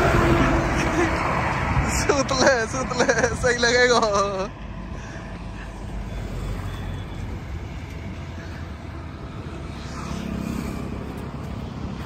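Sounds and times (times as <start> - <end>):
road traffic rumble: 0.0 - 12.0
vehicle engine: 0.0 - 12.0.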